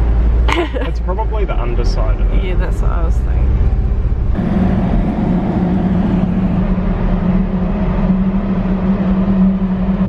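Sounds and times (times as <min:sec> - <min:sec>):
low engine rumble: 0:00.0 - 0:10.0.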